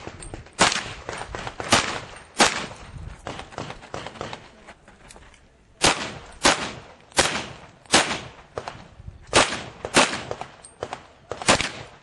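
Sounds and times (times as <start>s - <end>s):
gunshots: 0.0s - 4.6s, 5.8s - 12.0s.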